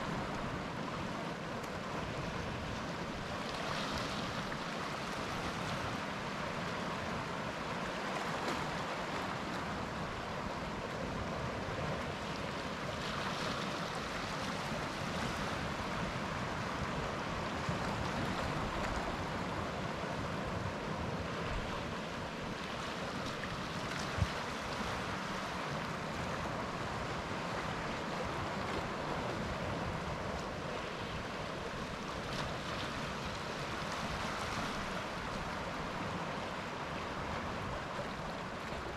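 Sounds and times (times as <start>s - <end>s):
sea waves breaking on beach: 0.0s - 38.9s.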